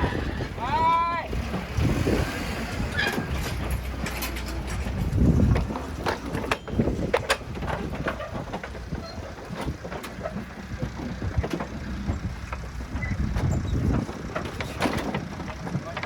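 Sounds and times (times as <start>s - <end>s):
truck engine idling: 1.8s - 16.0s
knocks and clanks of livestock loading: 2.8s - 16.0s.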